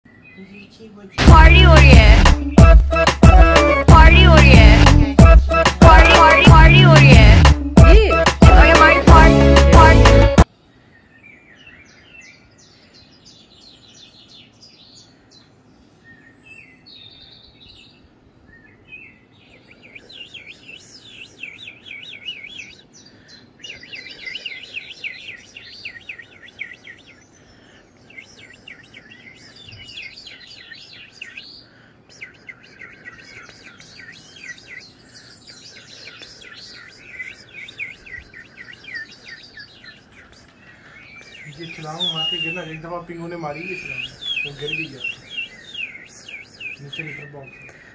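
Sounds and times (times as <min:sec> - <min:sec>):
birdsong through a television: 0:00.0 - 0:03.3, 0:09.8 - 0:47.9.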